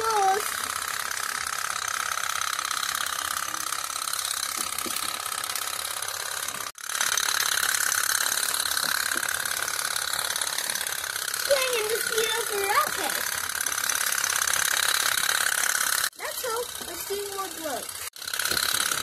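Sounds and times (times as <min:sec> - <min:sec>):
toy steam boat popping: 0:01.5 - 0:19.0.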